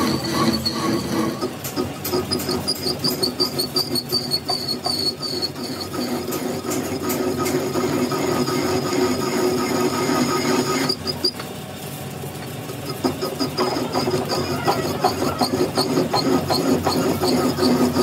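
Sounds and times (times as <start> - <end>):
machine running with high whine: 0.0 - 11.5, 12.9 - 18.0.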